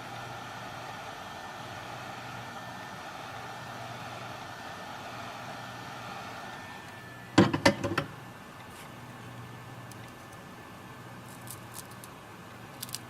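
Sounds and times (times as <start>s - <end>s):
hot-air blower running: 0.0s - 11.5s.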